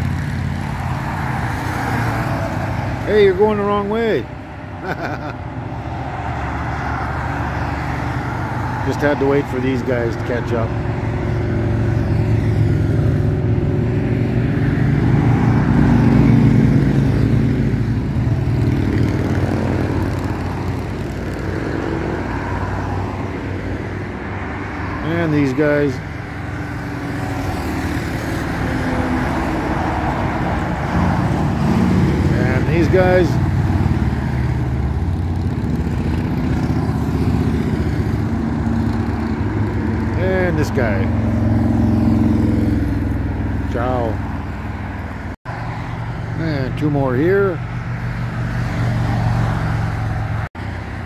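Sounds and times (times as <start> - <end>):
motorcycles riding past: 0.0 - 51.0.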